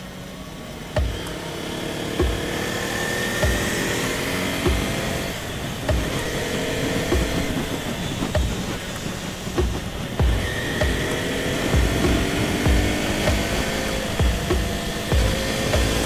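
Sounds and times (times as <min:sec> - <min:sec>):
motorcycle engine running: 0:00.0 - 0:16.0
wind noise: 0:02.2 - 0:16.0.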